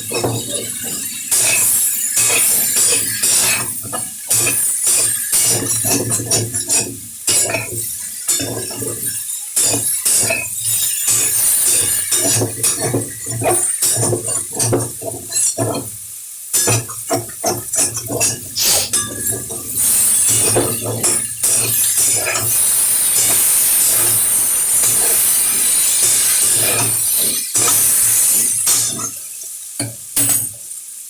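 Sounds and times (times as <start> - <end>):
spoon scraping a pan: 0.0 - 15.9, 16.5 - 29.1
food cooking hiss: 0.0 - 31.0.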